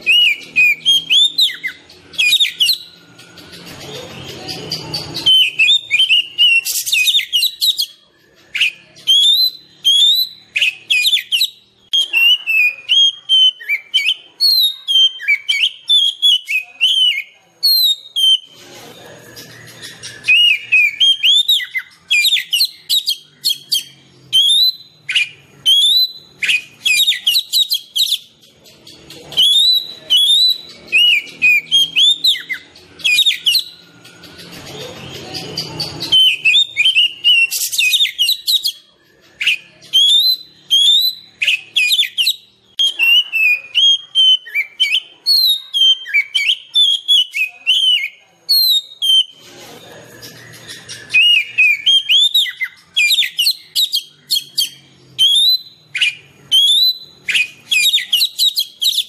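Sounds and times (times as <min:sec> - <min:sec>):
magpie-robin singing: 0:00.0 - 0:59.0.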